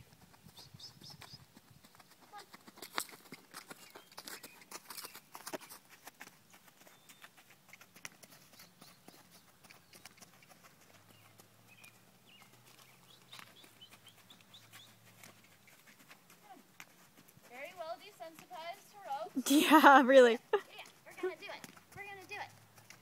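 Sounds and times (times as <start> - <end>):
hoofbeats on sand: 0.0 - 23.0.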